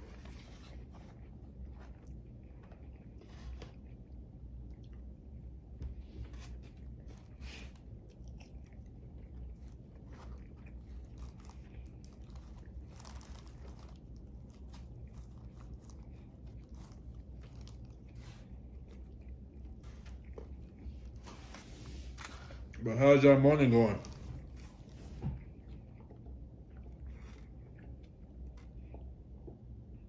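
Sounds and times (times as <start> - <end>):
chewing and crunching food: 0.0 - 30.0
steady low hum: 0.0 - 30.0.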